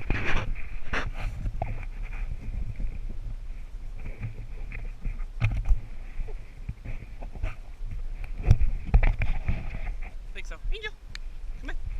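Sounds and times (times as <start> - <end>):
wind rumble on microphone: 0.0 - 11.9.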